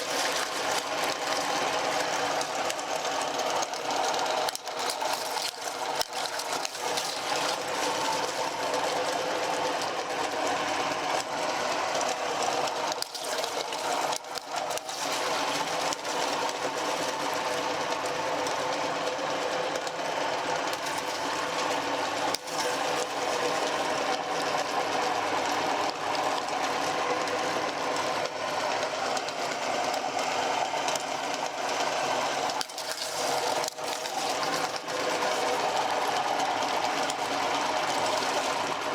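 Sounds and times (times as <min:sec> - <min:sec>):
electric meat grinder whirring: 0:00.0 - 0:38.9.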